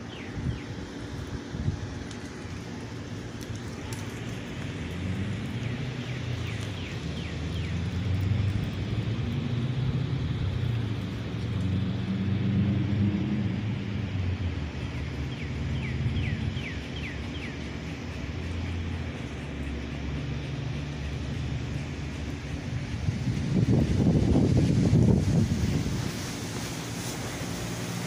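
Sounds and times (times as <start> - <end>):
low machine rumble: 0.0 - 28.0.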